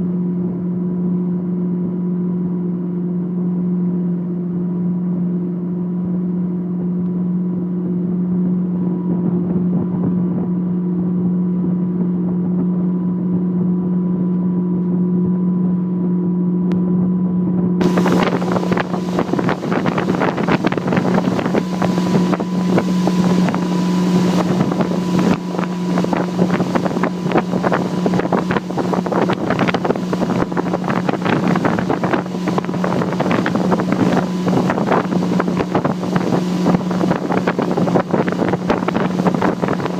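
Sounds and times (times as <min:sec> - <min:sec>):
motorboat engine humming: 0:00.0 - 0:39.9
wind and water rush on microphone: 0:00.0 - 0:39.9.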